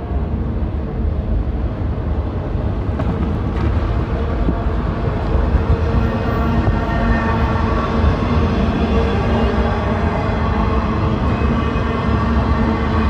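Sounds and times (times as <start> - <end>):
faint steady drone: 0.0 - 13.0
train rumbling by: 0.0 - 13.0.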